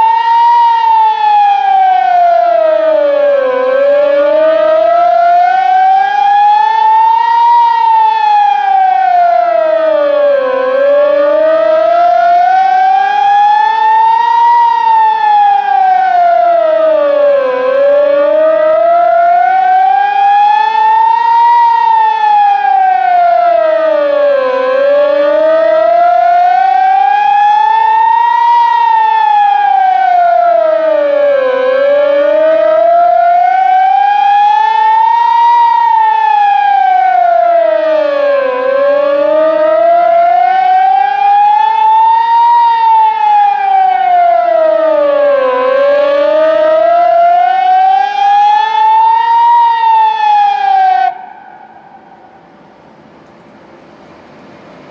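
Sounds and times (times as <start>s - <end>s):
warning siren wailing: 0.0s - 53.0s.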